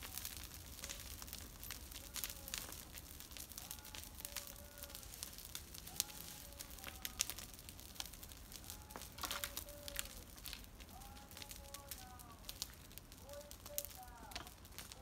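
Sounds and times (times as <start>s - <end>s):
brush fire crackling and popping: 0.0s - 15.0s.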